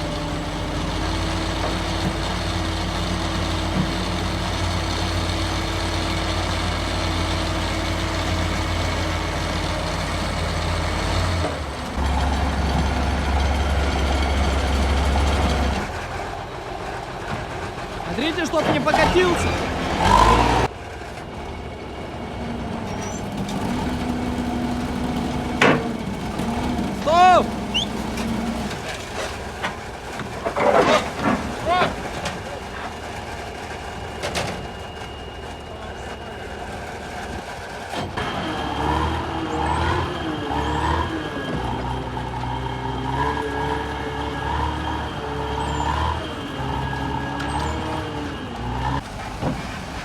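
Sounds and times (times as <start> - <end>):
diesel engine of heavy machinery: 0.0 - 50.0.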